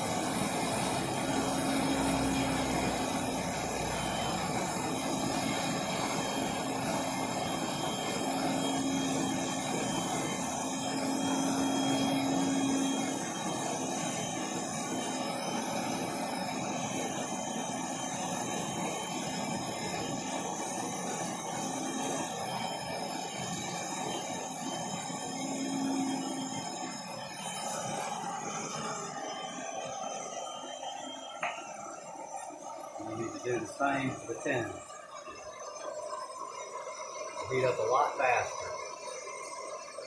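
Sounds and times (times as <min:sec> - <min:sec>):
gas torch hissing: 0:00.0 - 0:39.8.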